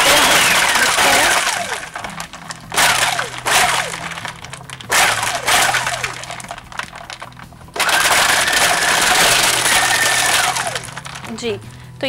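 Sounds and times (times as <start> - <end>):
blender motor running: 0.0 - 11.4
blender blending ice: 0.0 - 11.5.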